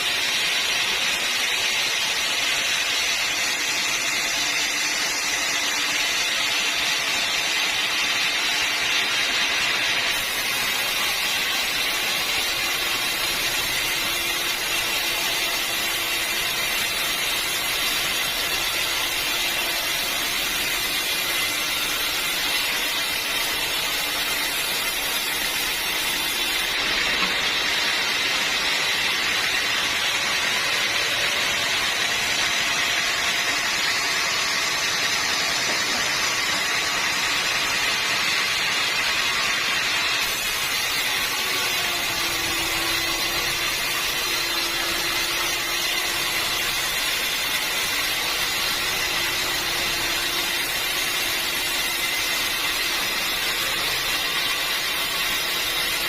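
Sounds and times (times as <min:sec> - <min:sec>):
saw blade cutting log: 0:00.0 - 0:56.0.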